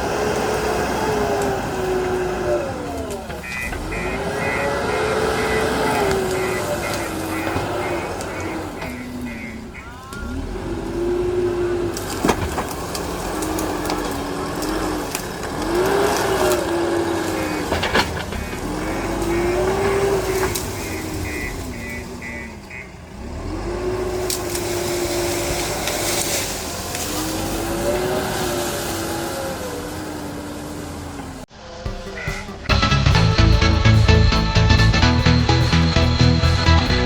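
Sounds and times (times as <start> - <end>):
diesel engine under load: 0.0 - 37.0.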